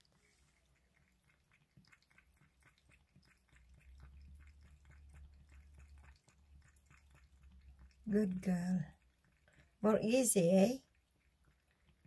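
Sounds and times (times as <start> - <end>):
cat lapping water: 0.0 - 12.0.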